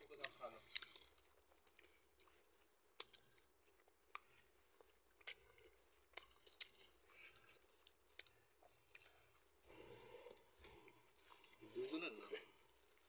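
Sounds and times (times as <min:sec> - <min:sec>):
sharp eating clicks and smacks: 0:00.0 - 0:13.0
soft chewing: 0:00.0 - 0:13.0.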